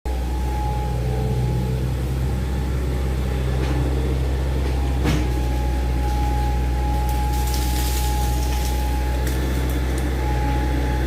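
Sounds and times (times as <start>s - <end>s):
excavator diesel engine running: 0.1s - 11.0s.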